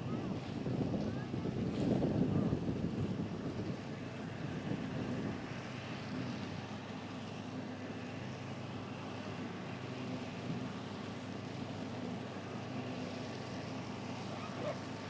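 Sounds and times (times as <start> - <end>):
farm machinery engine humming: 0.0 - 15.0.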